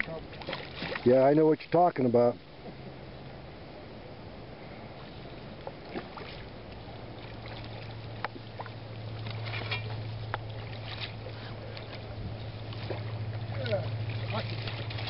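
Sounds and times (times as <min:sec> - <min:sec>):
low motor hum: 0:02.3 - 0:15.0.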